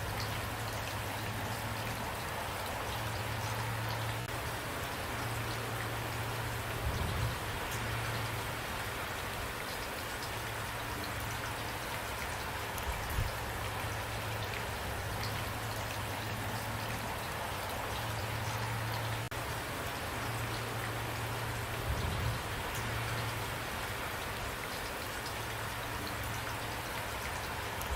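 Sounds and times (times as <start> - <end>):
raindrops ticking: 0.0 - 27.9
steady rain falling: 0.0 - 27.9.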